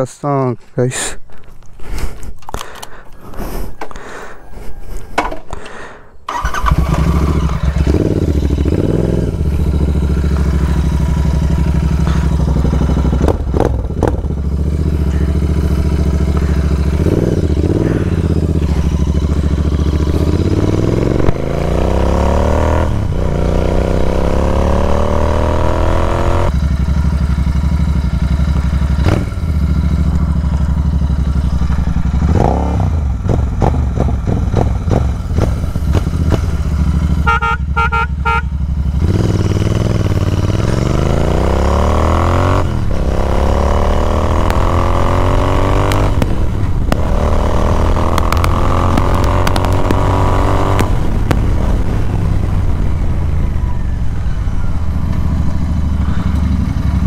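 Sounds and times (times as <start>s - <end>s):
motorcycle engine revving: 6.3s - 57.0s.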